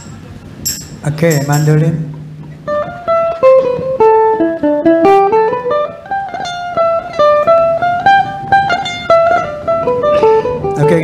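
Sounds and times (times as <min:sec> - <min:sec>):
mandolin picking a melody: 0:01.3 - 0:11.0.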